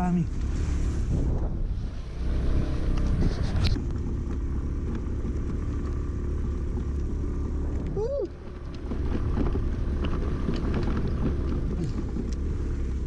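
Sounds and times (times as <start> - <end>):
scooter engine running: 2.0 - 13.0.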